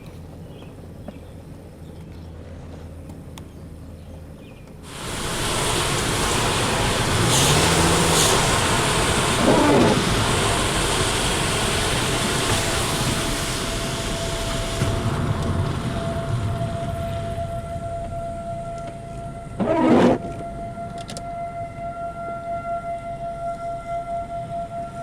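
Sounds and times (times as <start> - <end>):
vehicle road noise: 0.0 - 24.0
distant warning siren: 4.8 - 25.0.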